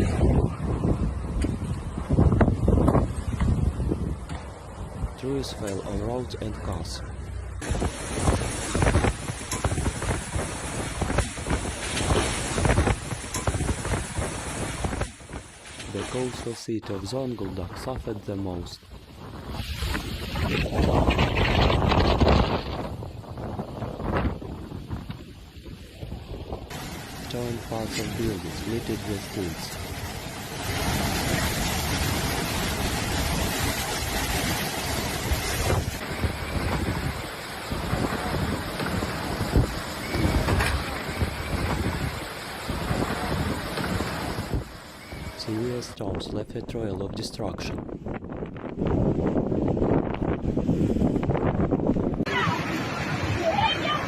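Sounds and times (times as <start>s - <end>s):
storm wind on microphone: 0.0s - 54.0s.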